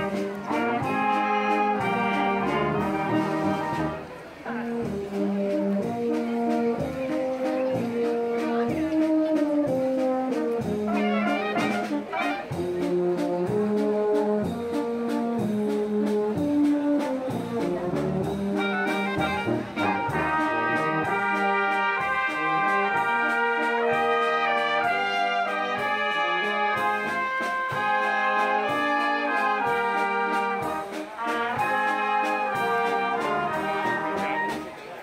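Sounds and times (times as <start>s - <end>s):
tubas playing bass beat: 0.0s - 35.0s
wind band playing: 0.0s - 35.0s.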